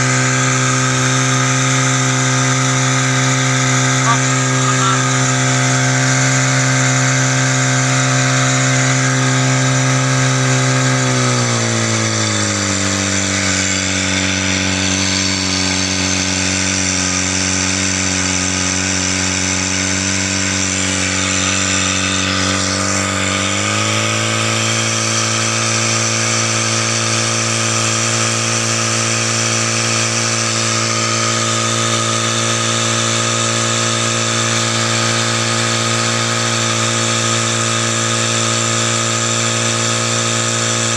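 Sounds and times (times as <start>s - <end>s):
small pump engine running: 0.0s - 40.9s.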